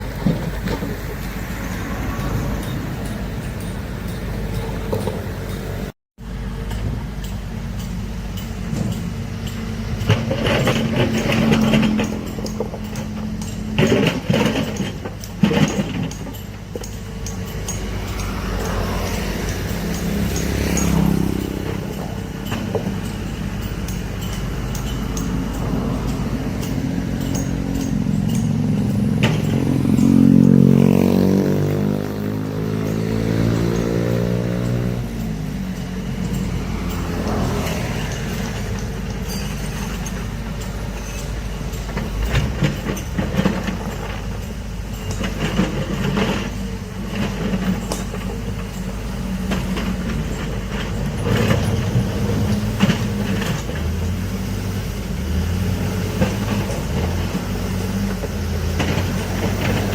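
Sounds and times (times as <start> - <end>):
large engine rumbling: 0.0 - 59.9
metallic clanks and knocks: 0.2 - 5.8, 6.6 - 59.9.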